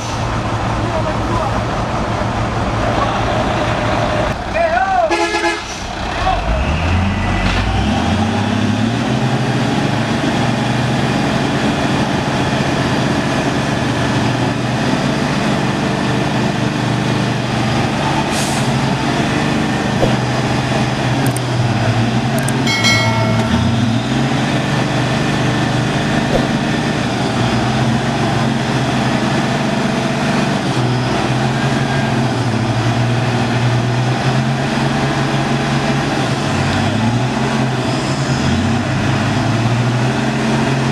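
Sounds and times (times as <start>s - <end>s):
truck engine running under load: 0.0s - 4.5s, 5.7s - 40.9s.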